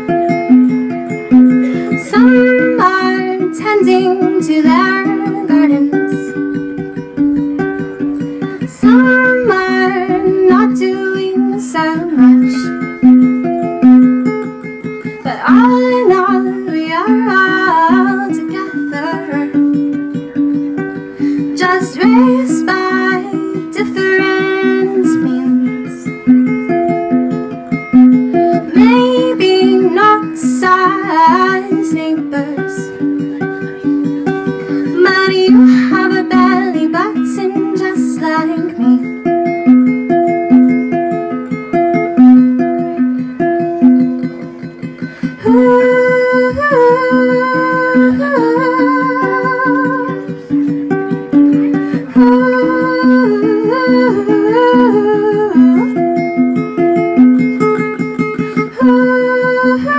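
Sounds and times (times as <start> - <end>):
ukulele picking: 0.0 - 59.9
woman singing: 0.3 - 6.8, 8.4 - 13.0, 15.0 - 26.4, 28.5 - 39.4, 45.2 - 59.9.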